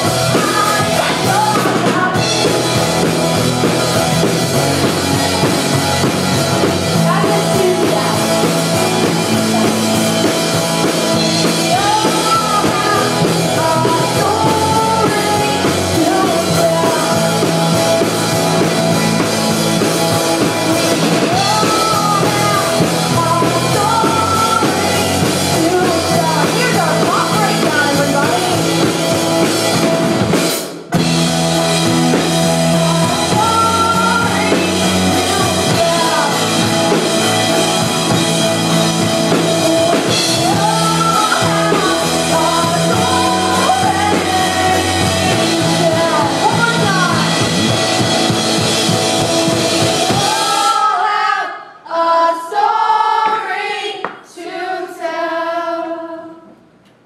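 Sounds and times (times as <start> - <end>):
pop-rock band with singer: 0.0 - 54.6.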